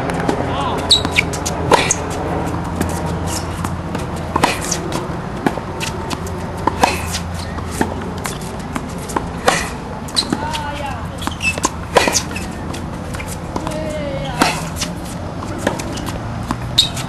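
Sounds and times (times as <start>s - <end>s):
steady low hum: 0.0s - 16.7s
tennis ball bouncing on court: 0.0s - 17.0s
tennis ball hit by racket: 0.0s - 17.0s
shoes scuffing on court: 0.1s - 17.0s.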